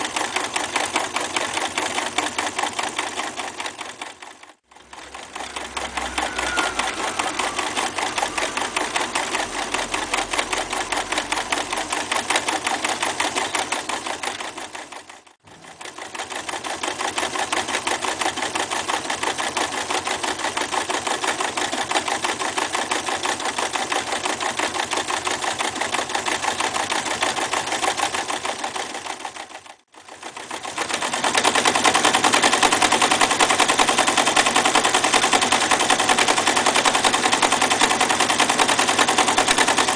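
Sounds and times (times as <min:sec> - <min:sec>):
sewing machine stitching leather: 0:00.0 - 0:39.9.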